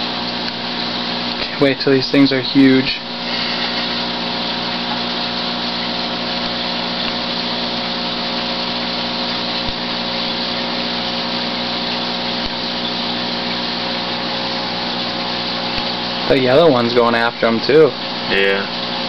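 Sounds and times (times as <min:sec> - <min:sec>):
hiss of moving water: 0:00.0 - 0:16.8
aquarium pump humming: 0:00.0 - 0:19.0.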